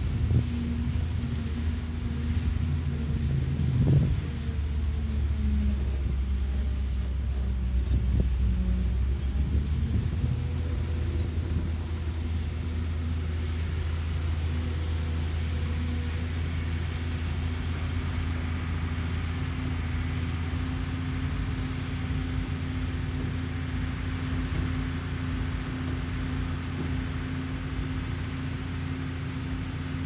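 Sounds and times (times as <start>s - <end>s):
excavator diesel engine droning: 0.0s - 30.0s.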